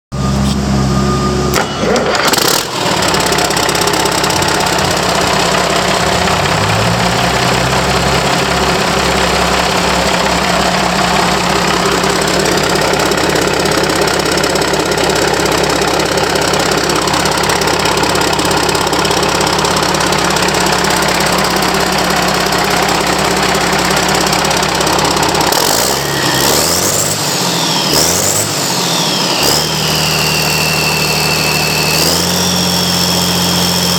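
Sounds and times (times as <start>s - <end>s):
diesel engine revving: 0.1s - 33.9s.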